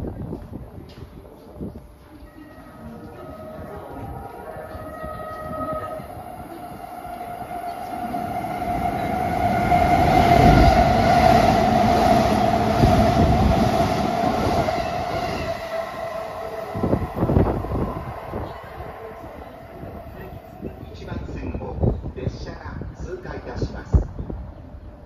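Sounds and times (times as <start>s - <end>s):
electric train passing at speed: 1.9s - 25.0s.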